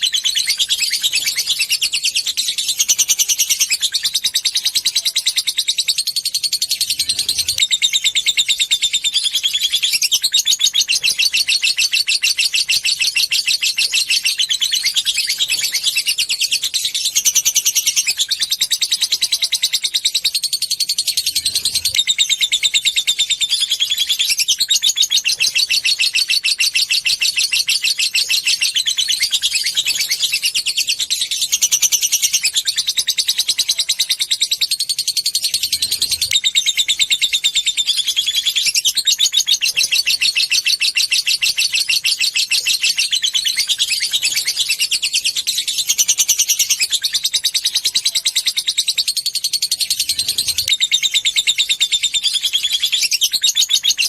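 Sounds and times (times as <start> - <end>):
bird chattering trill: 0.0 - 54.0.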